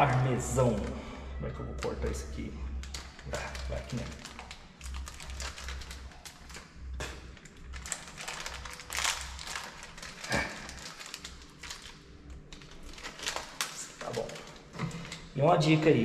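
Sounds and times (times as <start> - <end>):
plastic packet crinkling: 1.6 - 16.0.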